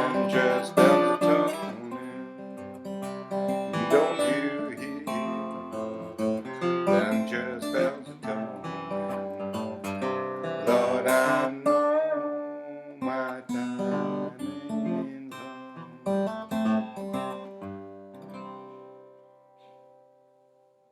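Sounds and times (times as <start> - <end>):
acoustic guitar playing: 0.0 - 20.8.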